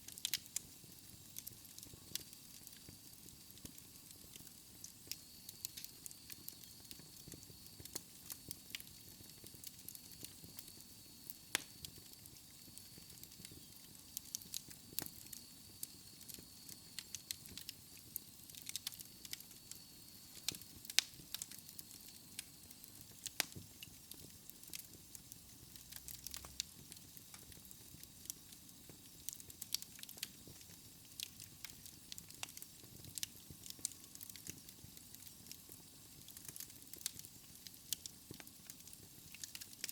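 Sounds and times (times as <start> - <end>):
soft steady hiss: 0.0 - 39.9
wood crackling and popping: 0.0 - 39.9.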